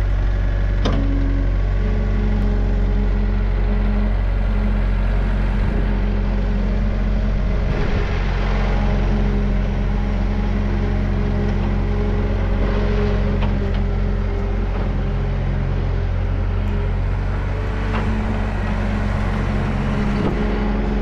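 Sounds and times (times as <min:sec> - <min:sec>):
skid steer engine running: 0:00.0 - 0:21.0.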